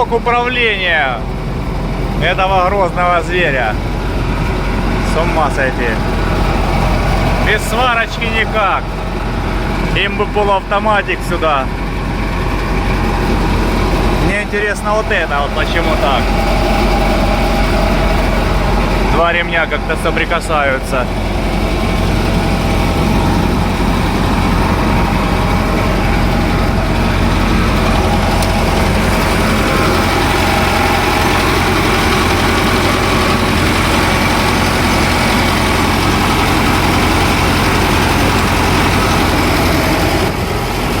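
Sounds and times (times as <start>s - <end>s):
combine harvester engine running: 0.0s - 41.0s.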